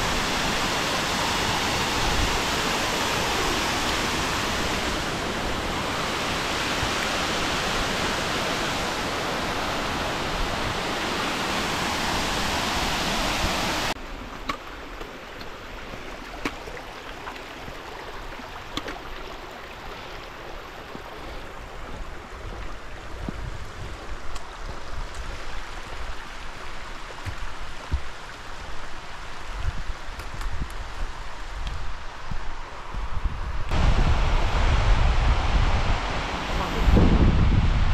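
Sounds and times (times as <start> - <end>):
wind rumble on microphone: 0.0 - 13.9, 20.9 - 37.9
running water rushing: 0.0 - 32.9, 33.7 - 37.9.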